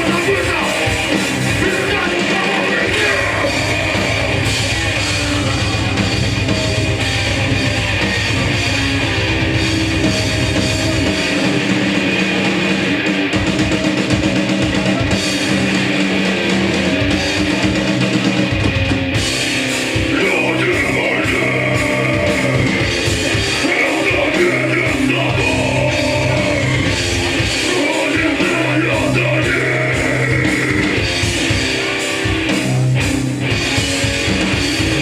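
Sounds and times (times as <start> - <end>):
distorted electric guitars: 0.0 - 35.0
pounding drum kit: 0.0 - 35.0.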